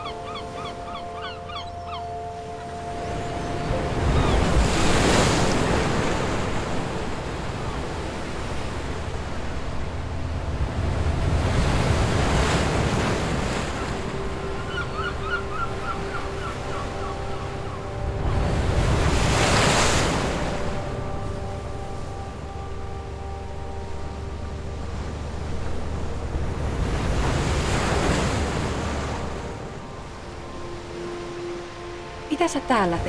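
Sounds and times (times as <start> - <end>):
wind: 0.0 - 33.0.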